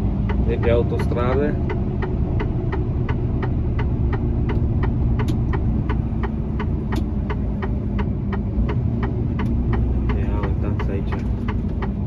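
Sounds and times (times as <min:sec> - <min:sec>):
diesel engine drone: 0:00.0 - 0:12.0
road noise: 0:00.0 - 0:12.0
turn signal ticking: 0:00.0 - 0:12.0.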